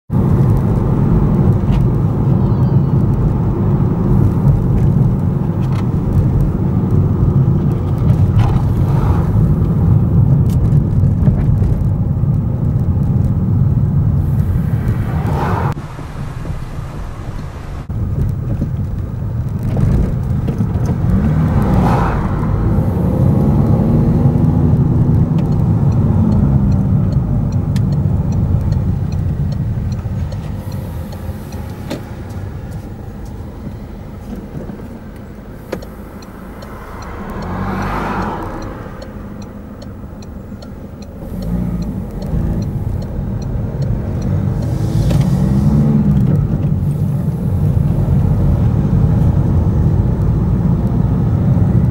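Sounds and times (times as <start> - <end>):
car engine accelerating: 0.1 - 51.9
road noise: 0.1 - 51.9.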